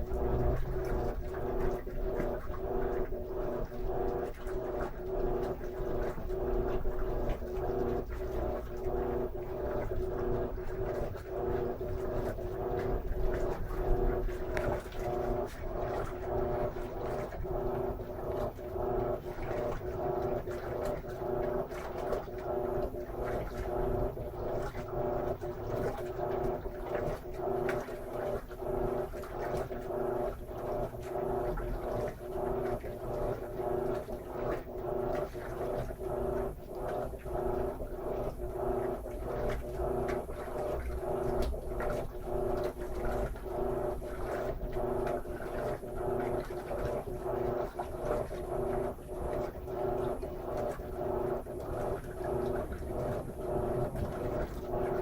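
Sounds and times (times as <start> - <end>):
washing machine motor hum: 0.0 - 55.0
water sloshing in washing machine: 0.0 - 55.0.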